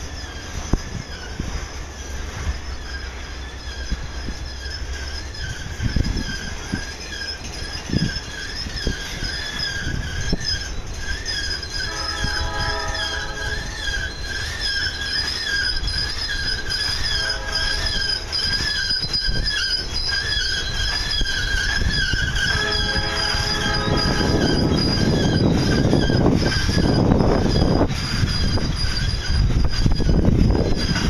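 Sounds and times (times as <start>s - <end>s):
low rumble of train: 0.0s - 31.0s
train wheel squeal: 0.0s - 31.0s
wheels clunking over rail joints: 0.0s - 31.0s.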